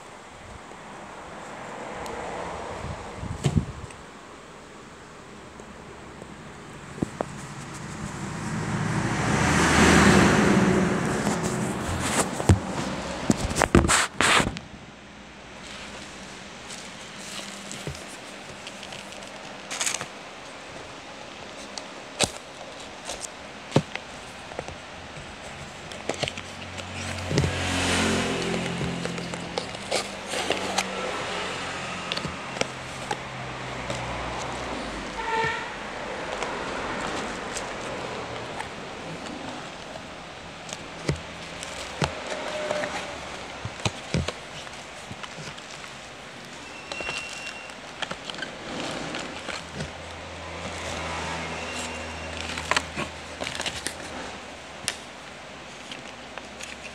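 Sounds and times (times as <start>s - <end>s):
cardboard box rustling scrape: 7.0s - 8.6s, 10.8s - 14.6s, 15.6s - 56.9s.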